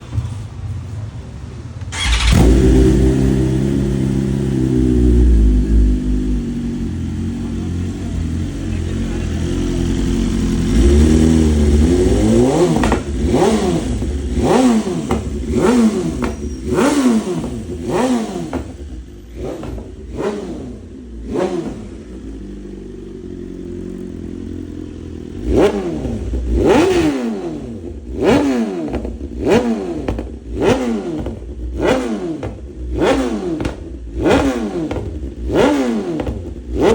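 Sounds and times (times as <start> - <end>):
engine throttle blips: 1.8 - 36.9
motorcycle engine running: 1.9 - 36.9.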